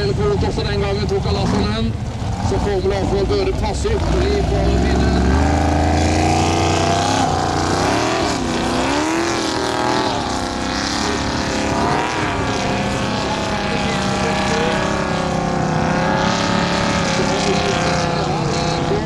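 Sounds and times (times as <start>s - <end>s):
off-road car engine revving: 0.0s - 19.0s.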